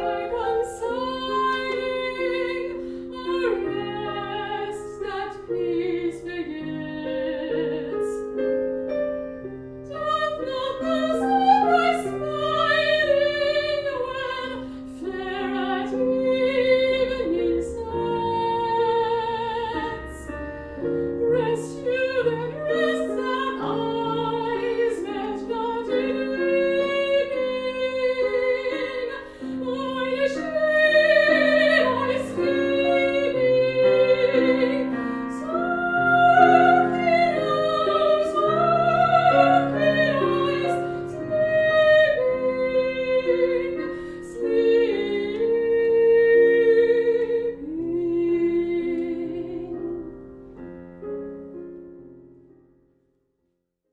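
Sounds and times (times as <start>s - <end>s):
operatic soprano singing: 0.0s - 8.6s, 9.8s - 50.3s
digital piano accompaniment: 0.0s - 53.0s.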